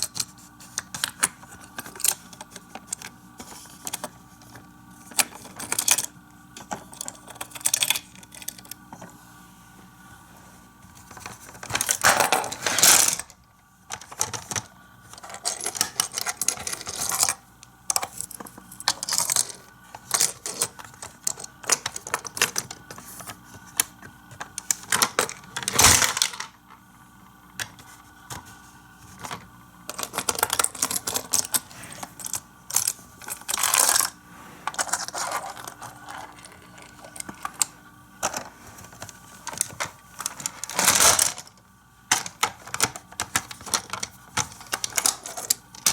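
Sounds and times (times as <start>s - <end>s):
toy cars clicking and clattering: 0.0s - 8.8s, 11.0s - 26.5s, 29.2s - 45.9s.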